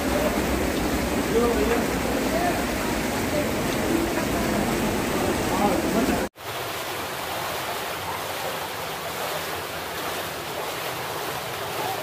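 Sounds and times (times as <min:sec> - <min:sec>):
stream rushing through rock gorge: 0:00.0 - 0:12.0.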